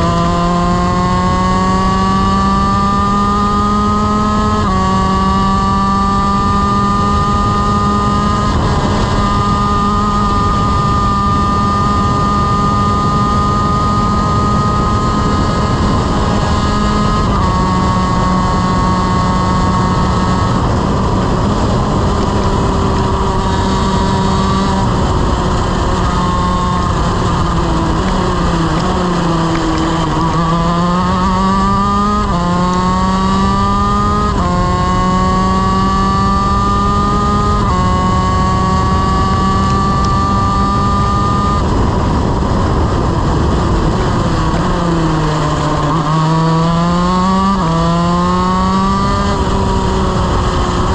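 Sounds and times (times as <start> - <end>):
kart engine at full throttle: 0.0 - 50.9.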